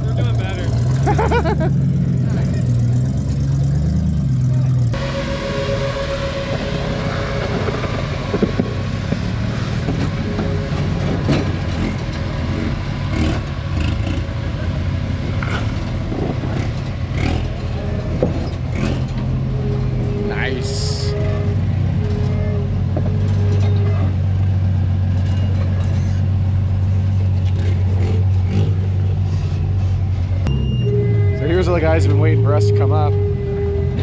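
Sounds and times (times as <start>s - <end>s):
engine running: 0.0s - 34.0s.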